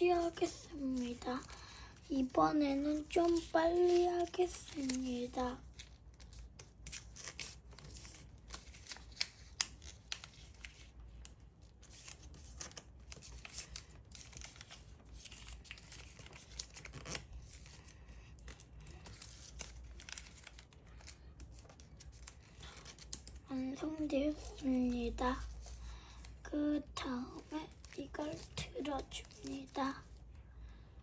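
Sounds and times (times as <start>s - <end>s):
paper crinkling and creasing: 0.0s - 30.3s.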